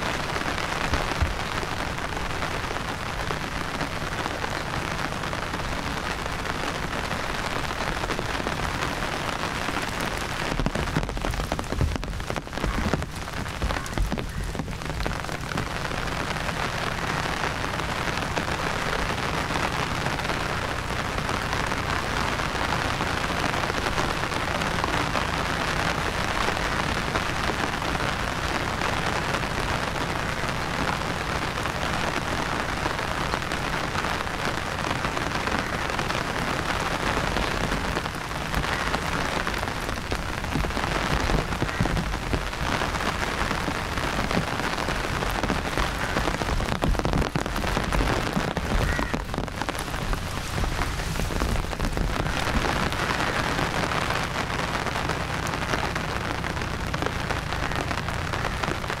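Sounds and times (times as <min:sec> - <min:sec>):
low bumps: 0:00.0 - 0:35.2, 0:36.3 - 0:59.0
steady rain falling: 0:00.0 - 0:59.0.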